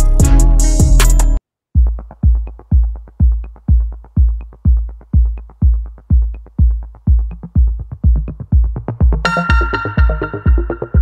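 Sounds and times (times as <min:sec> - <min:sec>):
electronic music with low beat: 0:00.0 - 0:11.0.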